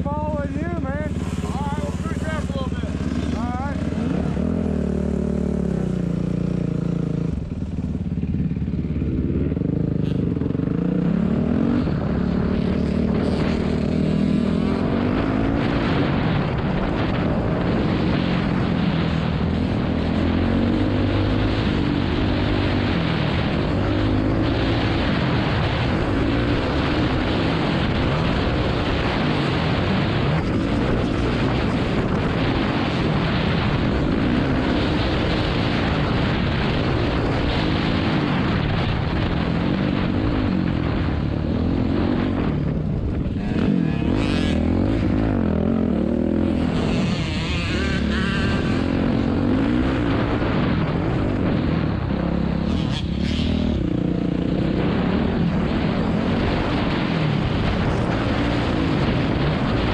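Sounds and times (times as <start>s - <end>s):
dirt bike engine accelerating: 0.0s - 59.9s
wind noise rushing: 0.0s - 59.9s.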